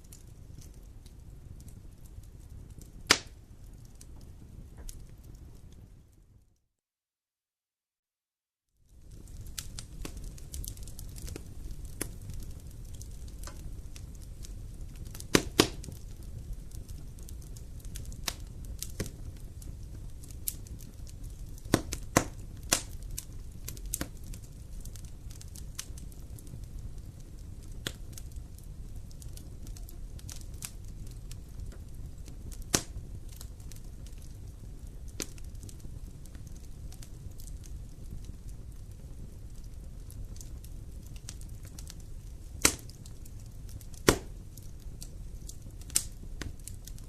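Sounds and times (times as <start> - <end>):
campfire crackling and popping: 0.0 - 6.3, 8.9 - 47.0
low rumble of flames: 0.0 - 6.6, 8.8 - 47.0.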